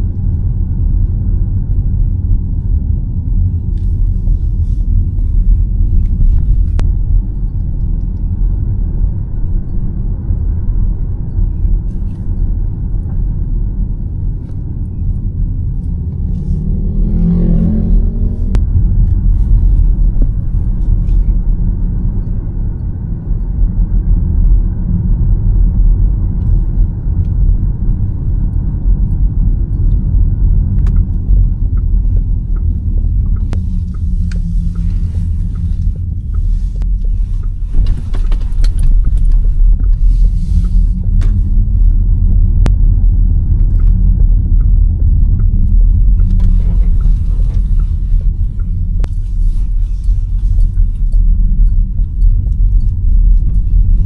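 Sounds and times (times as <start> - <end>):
road and tyre noise: 0.0 - 54.0.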